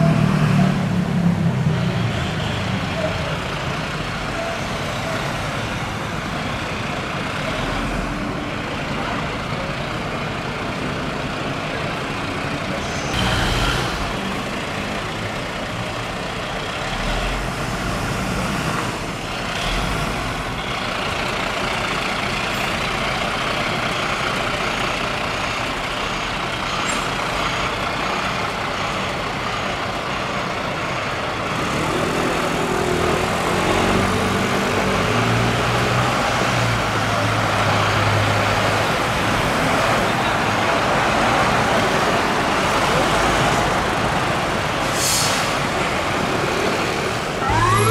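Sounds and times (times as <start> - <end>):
street traffic noise: 0.0 - 47.9.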